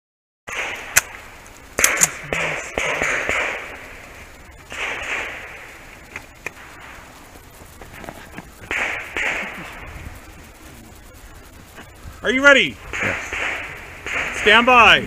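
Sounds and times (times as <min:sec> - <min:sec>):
outdoor rustling and movement: 0:00.5 - 0:15.0
sharp cracks: 0:00.5 - 0:15.0.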